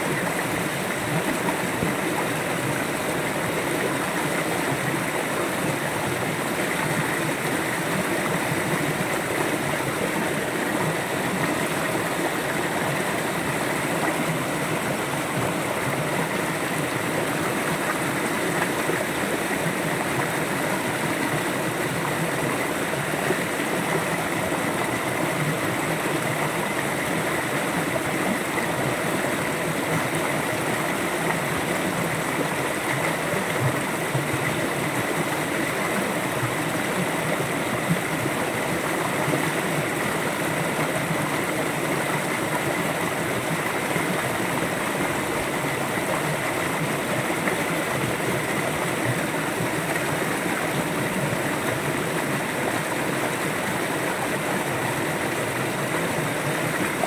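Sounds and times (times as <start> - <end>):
river flowing gently: 0.0 - 57.0.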